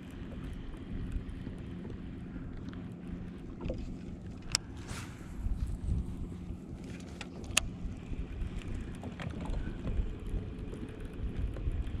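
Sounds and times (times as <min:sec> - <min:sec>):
faint ticks: 0:00.0 - 0:04.7, 0:06.8 - 0:12.0
faint steady hum: 0:00.0 - 0:12.0
wind rumble on microphone: 0:00.0 - 0:12.0.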